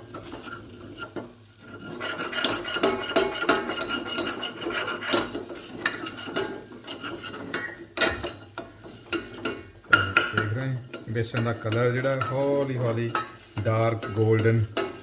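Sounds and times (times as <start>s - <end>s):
utensil scraping a pan: 0.0s - 15.0s
metal clinking on pan: 2.1s - 15.0s.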